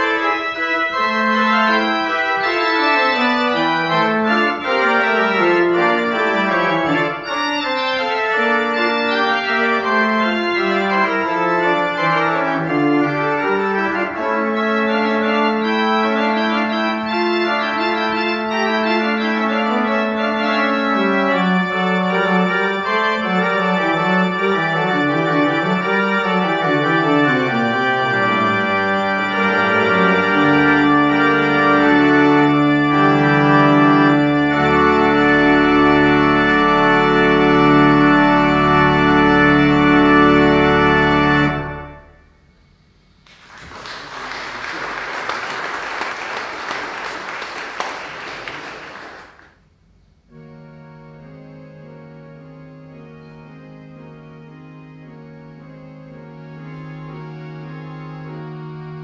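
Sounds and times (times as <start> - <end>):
church pipe organ playing: 0.0 - 59.0.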